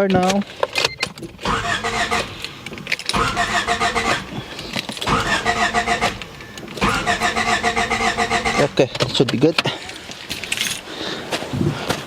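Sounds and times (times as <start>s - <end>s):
car engine cranking: 0.7s - 10.9s.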